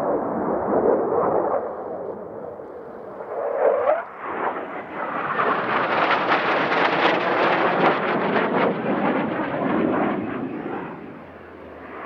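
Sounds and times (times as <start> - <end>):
jet engine noise in flight: 0.0 - 12.0.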